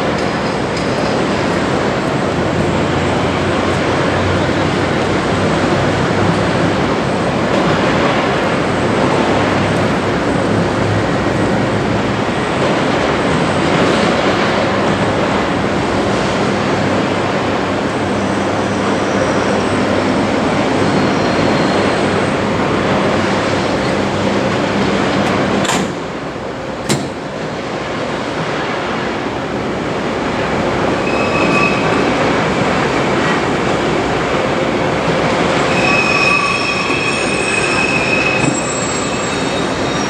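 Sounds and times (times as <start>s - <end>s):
rumble of passing vehicles: 0.0s - 36.4s.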